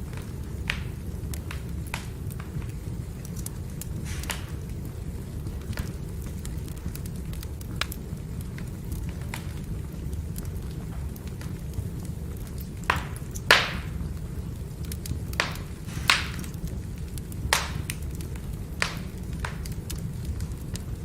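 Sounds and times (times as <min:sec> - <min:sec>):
firewood burning and crackling: 0:00.0 - 0:21.0
sharp pops of fire: 0:00.0 - 0:21.0.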